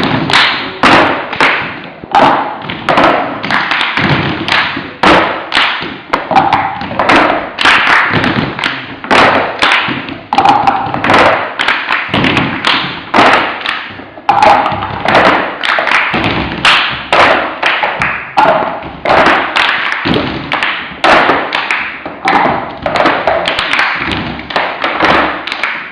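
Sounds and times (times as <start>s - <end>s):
hand claps: 0.0s - 25.9s.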